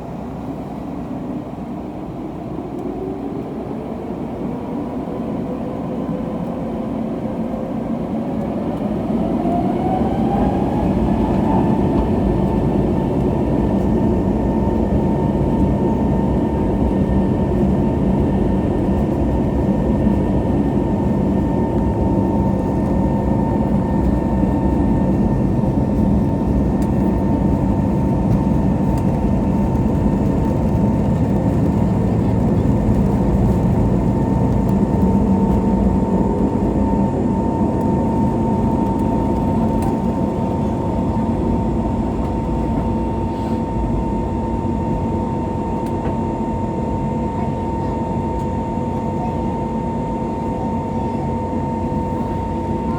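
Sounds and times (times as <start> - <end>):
jet engine whine: 0.0 - 52.9.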